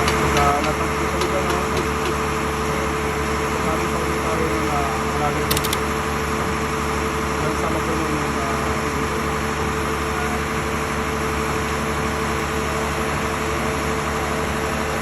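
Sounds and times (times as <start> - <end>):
heavy diesel engines droning: 0.0 - 15.0
steady whine: 0.0 - 15.0.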